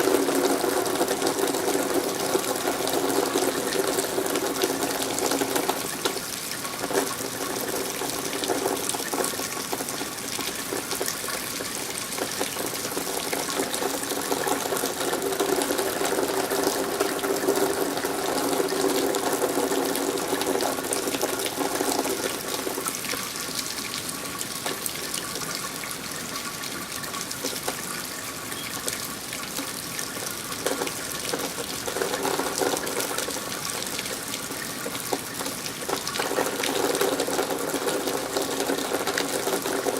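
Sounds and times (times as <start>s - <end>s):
rain falling: 0.0s - 39.9s
running water rushing: 0.0s - 39.9s.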